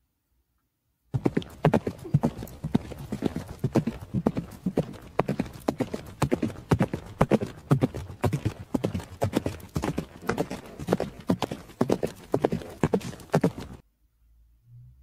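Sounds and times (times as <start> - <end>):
horse hooves clip-clopping: 1.2 - 13.8.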